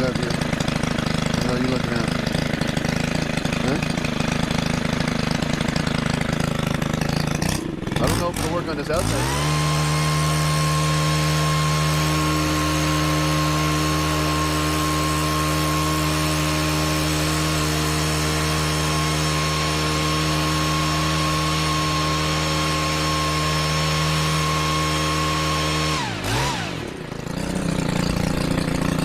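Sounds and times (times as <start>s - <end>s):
leaf blower engine at high revs: 0.0s - 29.0s.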